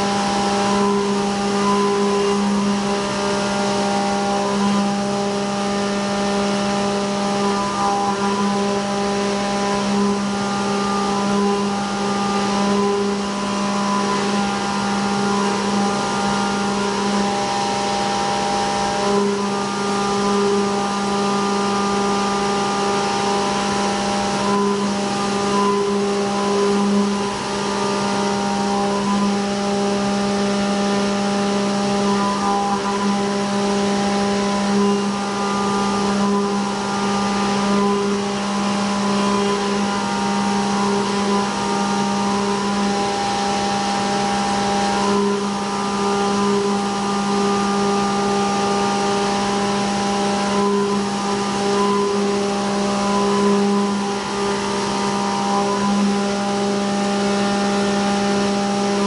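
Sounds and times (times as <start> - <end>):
end mill cutting metal: 0.0 - 59.0.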